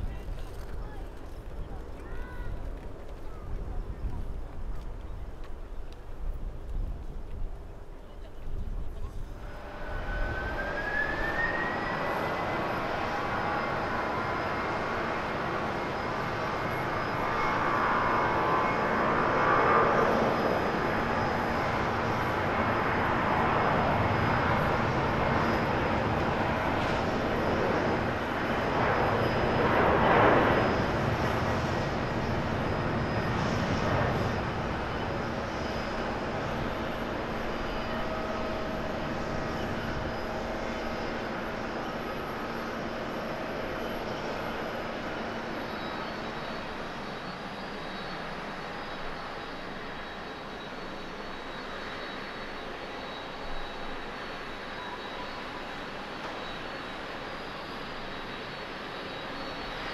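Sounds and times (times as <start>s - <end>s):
jet engines roaring at takeoff: 0.0s - 59.9s
faint high whine: 7.8s - 59.9s.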